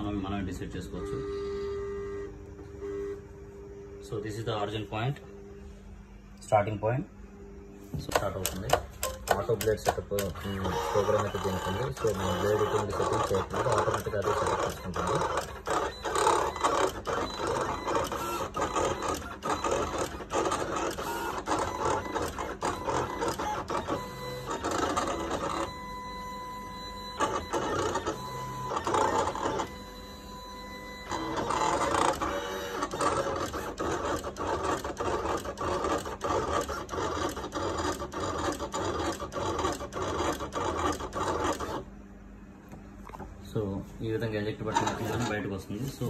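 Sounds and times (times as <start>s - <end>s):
cutting plotter motors whirring: 0.0s - 42.2s, 42.8s - 46.0s.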